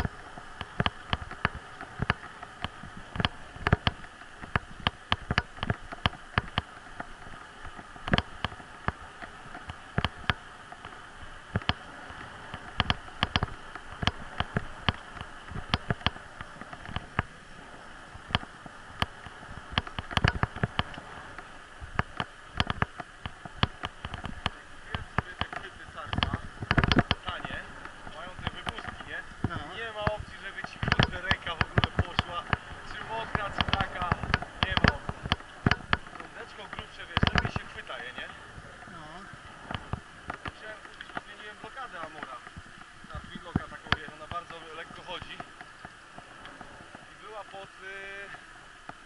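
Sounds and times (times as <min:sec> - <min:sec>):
bicycle rattling over bumps: 0:00.0 - 0:49.0
bicycle rolling hum: 0:00.0 - 0:49.0.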